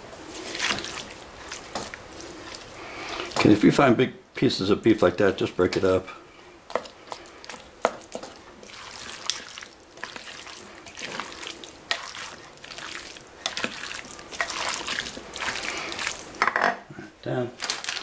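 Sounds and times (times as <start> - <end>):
spoon squelching thick wet mix: 0.0 - 3.6, 5.1 - 16.4, 17.6 - 18.0.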